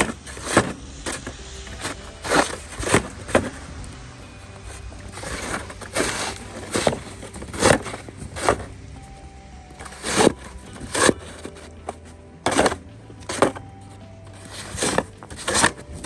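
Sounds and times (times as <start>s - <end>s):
snow shovel scraping packed snow: 0.0s - 3.7s, 4.6s - 8.8s, 9.8s - 13.6s, 14.4s - 16.0s.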